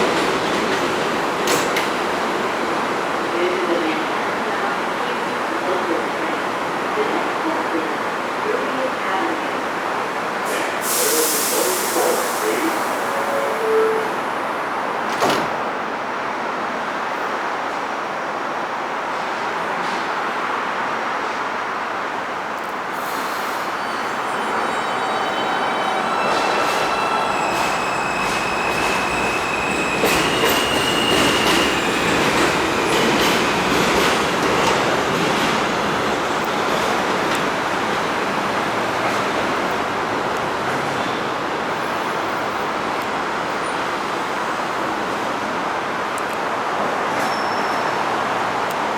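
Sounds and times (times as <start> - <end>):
subway train rumbling on track: 0.0 - 48.9.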